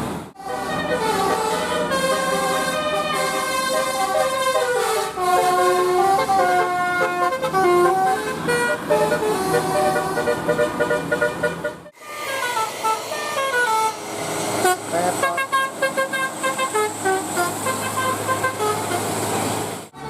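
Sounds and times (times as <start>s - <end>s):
bus multi-tone air horns tune: 0.4s - 20.0s.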